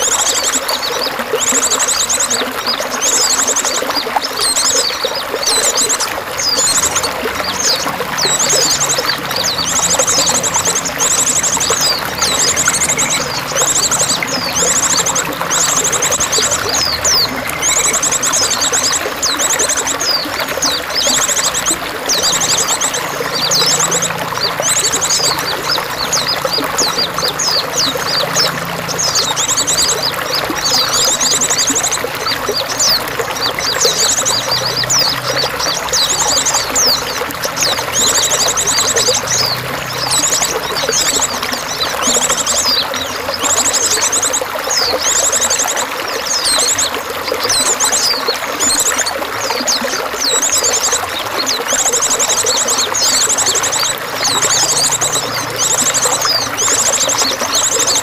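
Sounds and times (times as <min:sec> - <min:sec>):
songbird trilling and whistling: 0:00.0 - 0:58.0
water pouring and trickling: 0:00.0 - 0:58.0.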